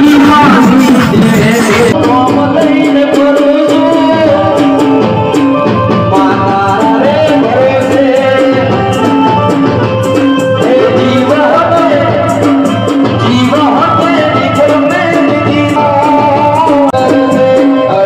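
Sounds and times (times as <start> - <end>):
accompanying instruments: 0.0 - 18.0
person singing: 0.0 - 18.0
steady percussion beat: 0.0 - 18.0.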